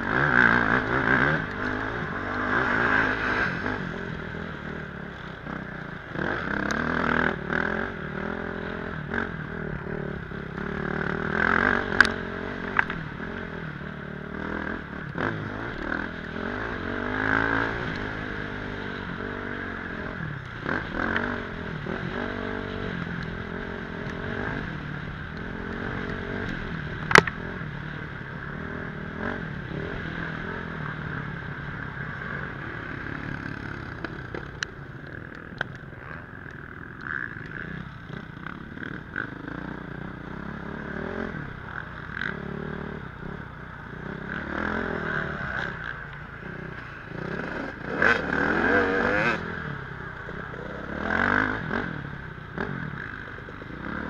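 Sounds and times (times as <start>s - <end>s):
dirt bike engine revving: 0.0s - 34.5s, 35.1s - 54.0s.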